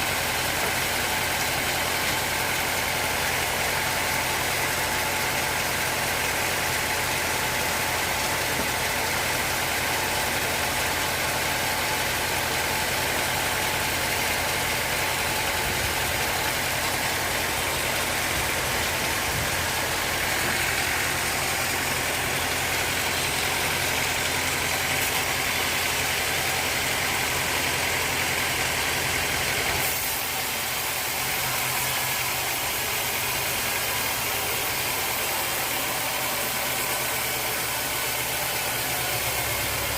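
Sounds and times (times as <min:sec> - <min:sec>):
engine drone: 0:00.0 - 0:39.9
saw cutting hiss: 0:05.2 - 0:39.9.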